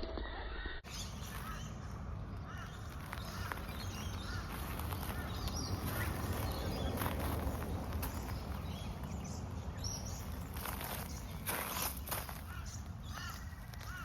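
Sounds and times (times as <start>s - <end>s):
birds chirping: 0.8s - 14.0s
steady low rumble: 1.1s - 14.0s.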